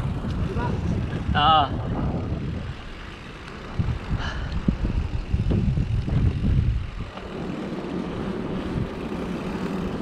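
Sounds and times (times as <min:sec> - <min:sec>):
bike tyres on dirt trail: 0:00.0 - 0:10.0
wind rumbling on microphone: 0:00.0 - 0:10.0.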